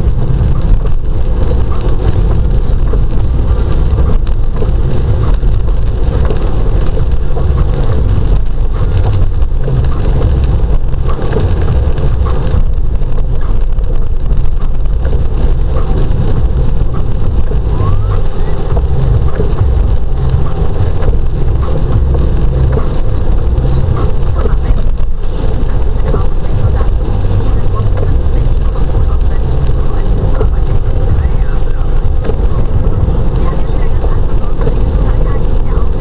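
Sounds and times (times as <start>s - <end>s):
car engine and tyres on wet road: 0.0s - 36.0s.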